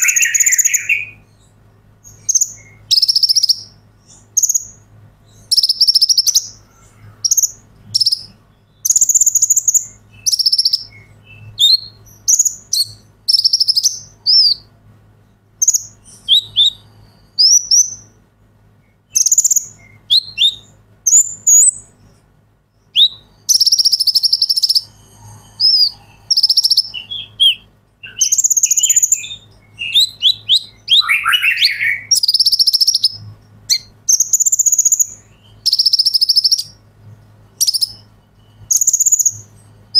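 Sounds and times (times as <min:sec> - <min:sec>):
bird trilling song: 0:00.0 - 0:18.2, 0:18.8 - 0:39.9
faint electrical hum: 0:00.0 - 0:39.9.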